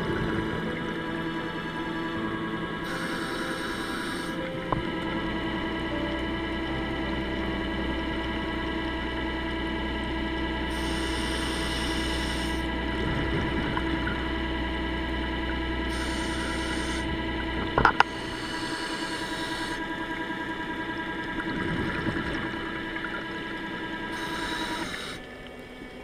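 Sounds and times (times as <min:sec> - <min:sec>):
regulator bubbles hissing: 0:00.0 - 0:26.0
underwater scooter motor hum: 0:00.0 - 0:26.0.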